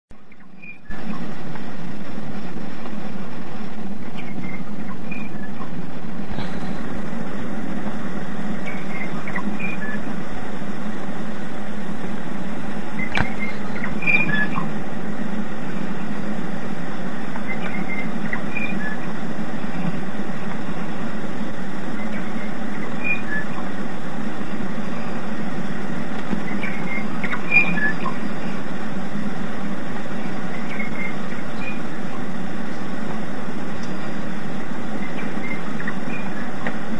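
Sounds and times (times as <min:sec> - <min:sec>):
low hum: 0:00.1 - 0:36.9
radio static and hiss: 0:00.2 - 0:36.9.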